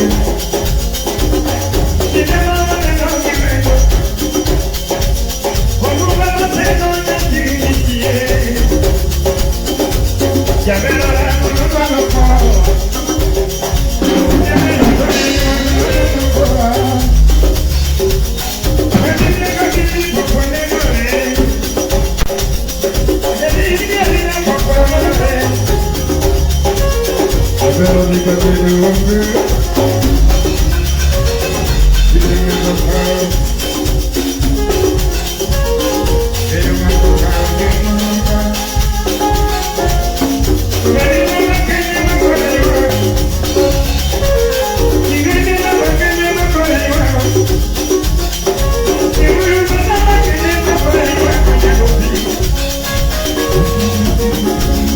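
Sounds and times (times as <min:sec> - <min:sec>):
live band playing: 0:00.0 - 0:54.9.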